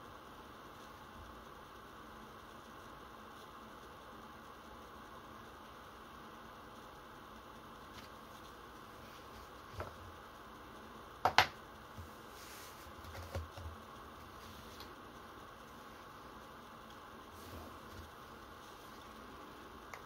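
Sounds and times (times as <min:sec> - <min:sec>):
faint hiss: 0:00.0 - 0:13.0, 0:13.8 - 0:20.0.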